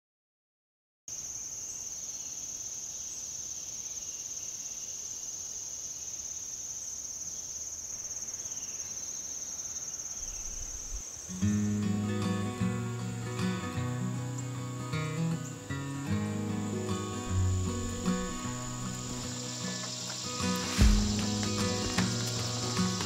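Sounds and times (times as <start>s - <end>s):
insects chirping: 1.1s - 23.0s.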